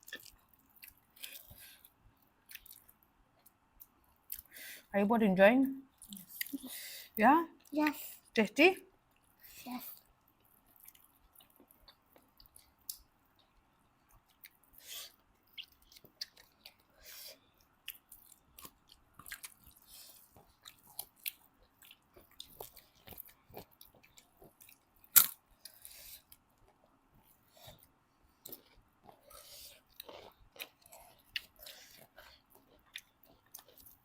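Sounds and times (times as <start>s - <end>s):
people chewing food: 0.0s - 4.9s, 5.9s - 8.3s, 9.0s - 34.0s.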